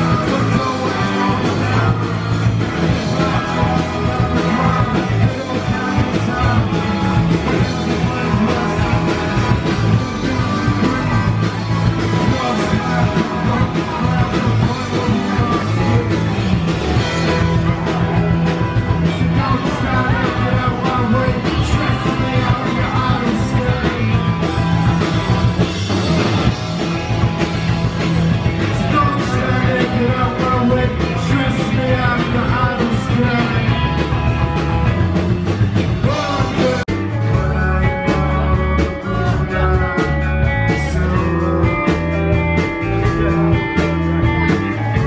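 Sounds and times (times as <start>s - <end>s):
drums: 0.0s - 45.0s
electric guitars: 0.0s - 45.0s
person singing: 0.0s - 45.0s.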